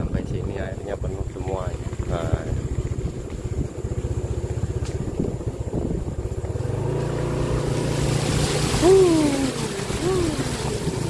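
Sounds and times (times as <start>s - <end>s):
wind rushing over microphone: 0.0s - 8.9s
motor scooter engine: 0.0s - 11.0s.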